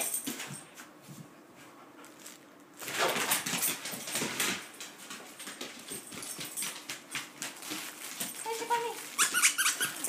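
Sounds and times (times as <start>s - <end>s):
dog scuffling on hard floor: 0.0s - 10.0s.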